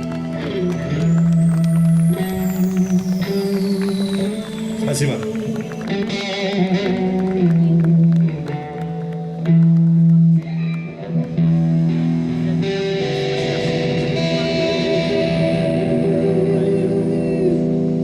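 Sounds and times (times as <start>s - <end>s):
instrumental guitar music: 0.0s - 18.0s.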